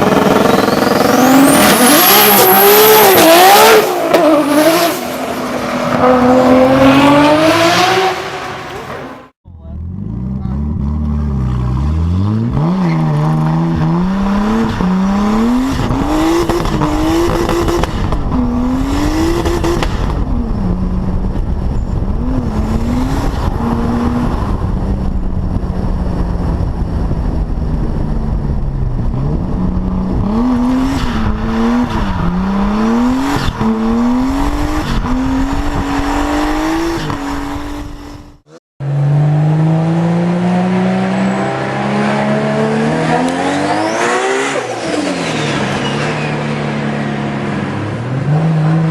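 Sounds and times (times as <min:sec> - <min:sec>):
engine revving up: 0:00.0 - 0:20.2, 0:29.2 - 0:48.9
car engine accelerating through gears: 0:00.0 - 0:48.9.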